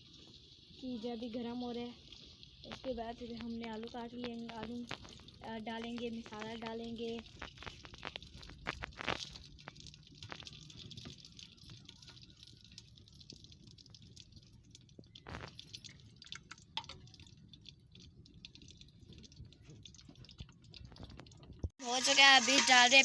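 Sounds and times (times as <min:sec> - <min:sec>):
ghee crackling in a pot: 0:00.0 - 0:23.0.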